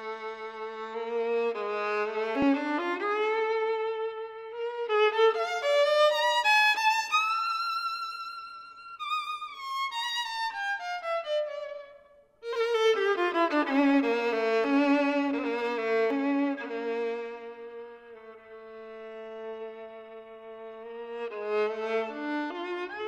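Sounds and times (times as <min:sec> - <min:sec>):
violin playing slow melody: 0:00.0 - 0:23.0.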